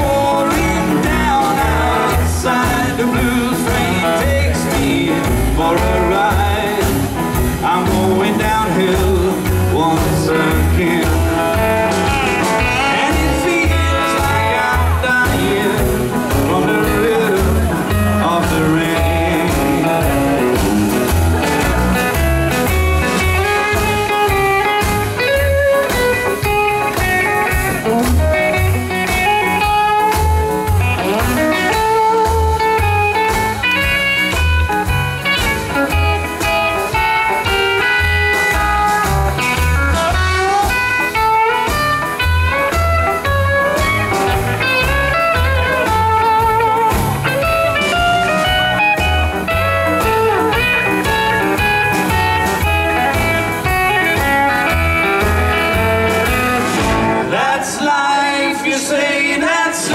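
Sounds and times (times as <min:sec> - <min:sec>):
electric guitar melody: 0:00.0 - 0:57.6
rock and roll band playing: 0:00.0 - 0:59.9.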